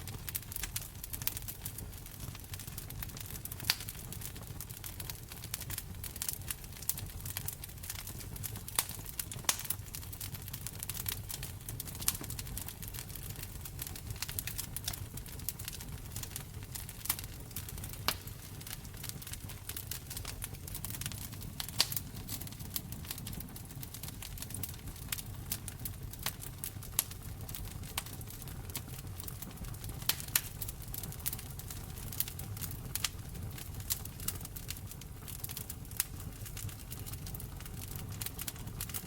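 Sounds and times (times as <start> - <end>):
fireplace fire crackling: 0.0 - 39.0.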